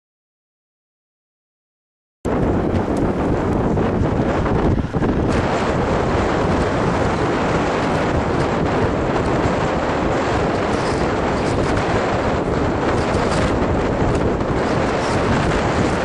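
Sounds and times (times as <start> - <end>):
low rumble: 2.3 - 16.0
wind buffeting microphone: 2.3 - 16.0.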